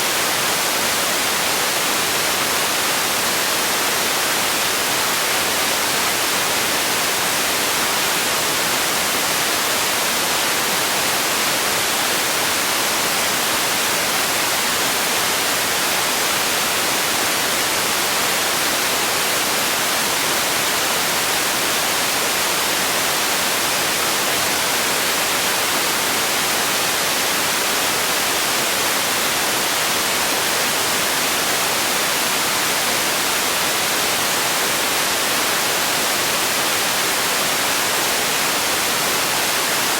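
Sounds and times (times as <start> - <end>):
steady bright hiss: 0.0 - 39.9.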